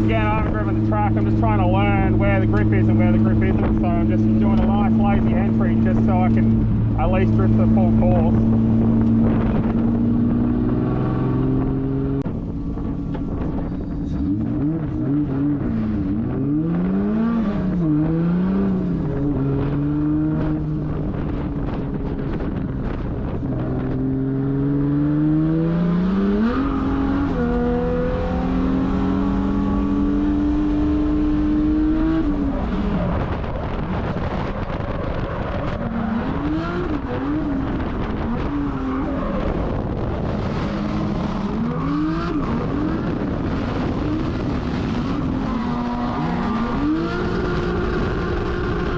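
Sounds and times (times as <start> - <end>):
car engine revving hard: 0.0 - 48.9.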